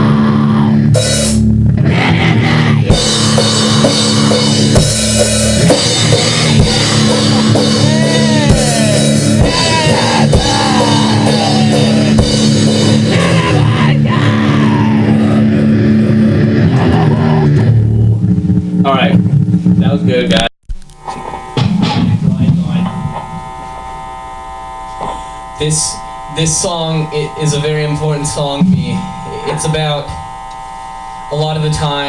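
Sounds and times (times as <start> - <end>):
heavy metal music: 0.0 - 20.3, 21.0 - 32.0.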